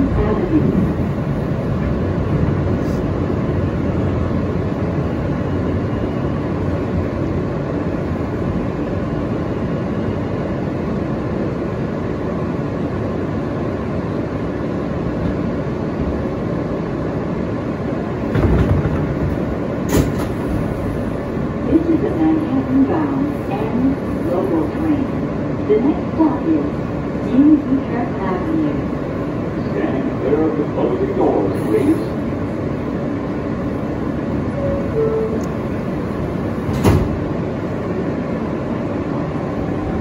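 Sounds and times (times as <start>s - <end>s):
subway wheels rumbling on rail: 0.0s - 40.0s.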